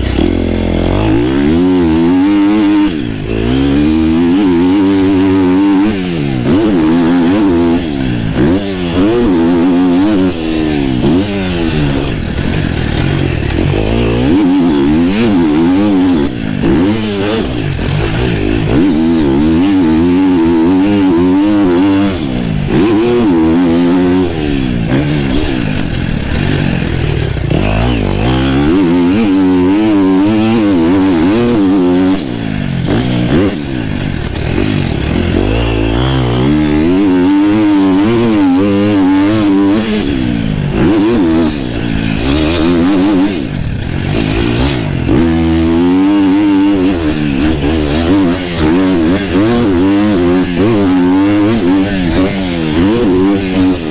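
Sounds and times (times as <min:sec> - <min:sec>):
motocross bike engine revving: 0:00.0 - 0:53.9.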